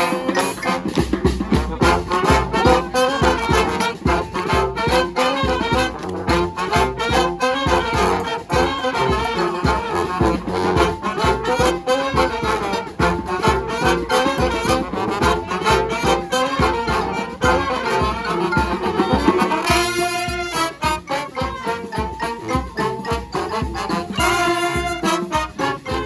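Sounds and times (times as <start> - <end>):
brass band playing: 0.0 - 26.0
percussive beat: 0.0 - 26.0.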